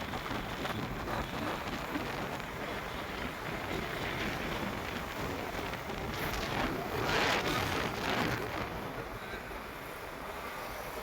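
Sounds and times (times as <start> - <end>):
motorcycle road noise: 0.0 - 11.0
rushing wind: 0.0 - 11.0.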